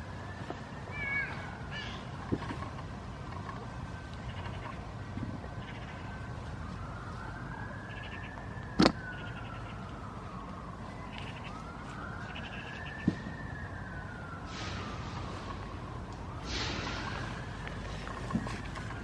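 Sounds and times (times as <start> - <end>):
emergency vehicle siren wailing: 0.0 - 19.0.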